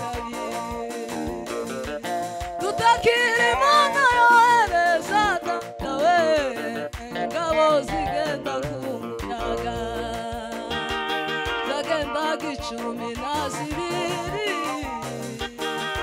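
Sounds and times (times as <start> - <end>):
electronic keyboard with beat: 0.0 - 16.0
woman singing into microphone: 0.0 - 16.0.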